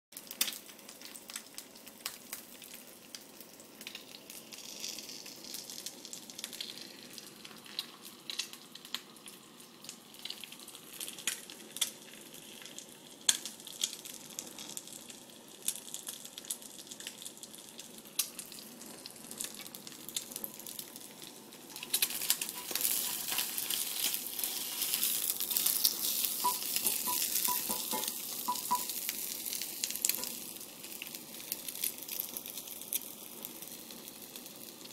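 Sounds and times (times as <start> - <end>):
egg sizzling in oil: 0.2 - 34.9.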